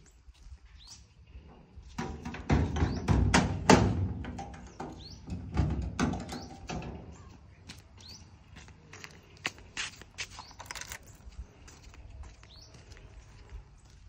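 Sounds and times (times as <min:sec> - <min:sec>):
small birds chirping: 0:00.0 - 0:02.0, 0:02.7 - 0:03.4, 0:04.3 - 0:14.0.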